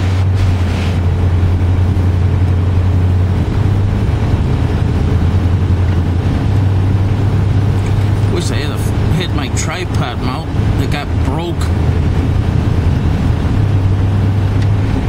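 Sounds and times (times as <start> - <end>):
car engine and tyres drone: 0.0 - 15.0.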